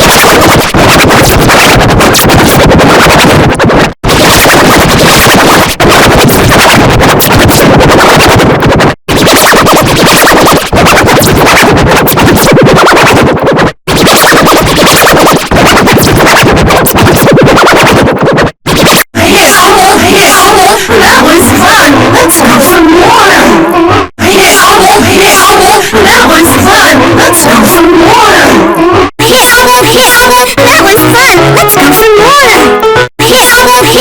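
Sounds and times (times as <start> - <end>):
distorted noisy electronic audio: 0.0 - 32.5, 33.2 - 34.0.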